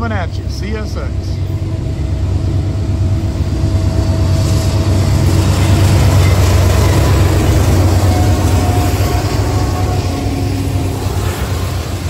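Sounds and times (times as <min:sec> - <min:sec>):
diesel locomotive engine drone: 0:00.0 - 0:12.0
train wheels rumbling on rails: 0:00.0 - 0:12.0.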